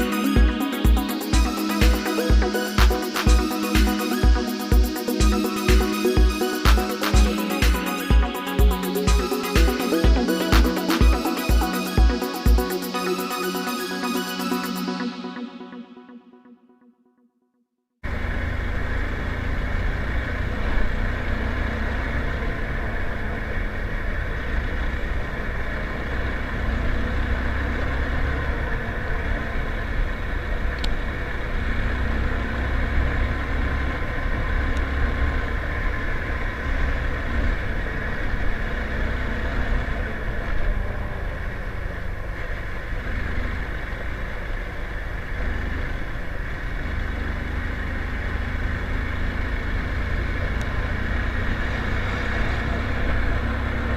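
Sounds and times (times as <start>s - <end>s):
motorcycle engine running: 0.0s - 13.6s, 18.1s - 53.9s.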